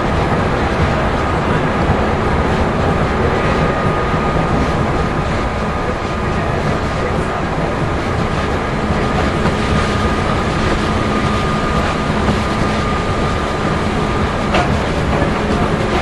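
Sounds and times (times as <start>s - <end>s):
train motor whine: 0.0s - 16.0s
train wheels rumbling on rail: 0.0s - 16.0s.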